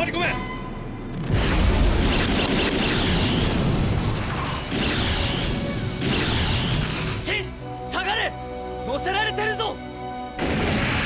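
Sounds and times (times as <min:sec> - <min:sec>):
background music: 0:00.0 - 0:02.8, 0:04.7 - 0:11.0.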